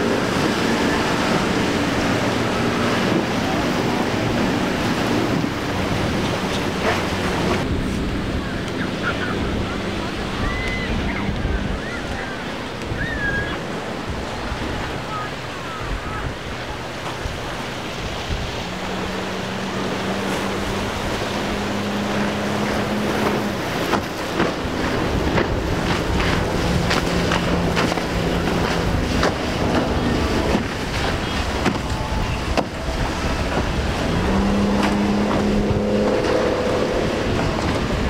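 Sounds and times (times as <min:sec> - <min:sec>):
outboard motor running: 0:00.0 - 0:38.0
rush of water and spray: 0:00.0 - 0:38.0
water slapping: 0:00.0 - 0:38.0
wind on microphone: 0:00.0 - 0:38.0.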